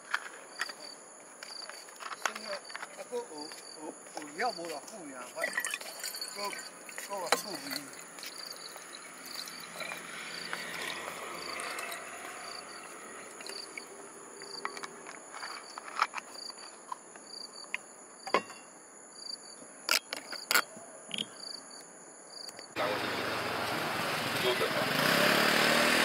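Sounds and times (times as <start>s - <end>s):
crickets chirping: 0.0s - 25.8s.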